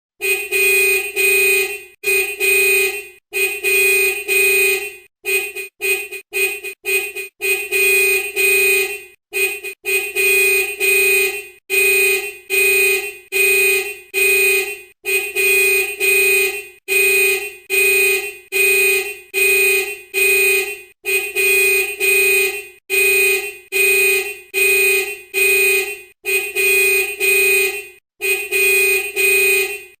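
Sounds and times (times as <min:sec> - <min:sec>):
vehicle horn honking: 0:00.2 - 0:30.0.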